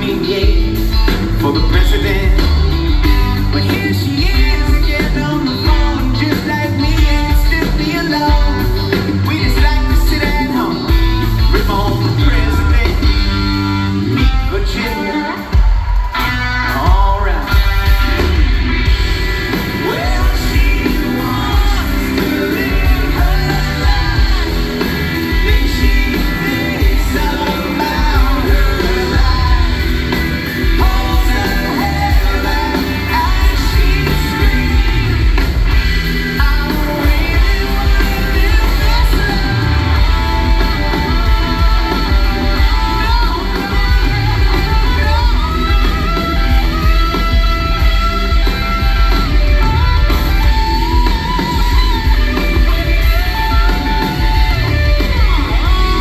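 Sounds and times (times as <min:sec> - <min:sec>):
lead singer singing: 0:00.0 - 0:56.0
live rock band: 0:00.0 - 0:56.0.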